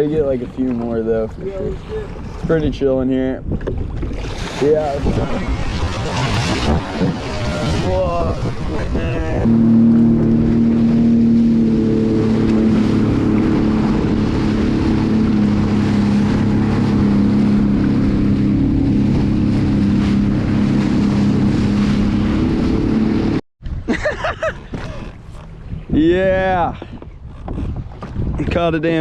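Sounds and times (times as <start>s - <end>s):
jet ski engine running: 0.0s - 23.4s
water noise: 0.0s - 29.0s
wind on microphone: 0.0s - 29.0s.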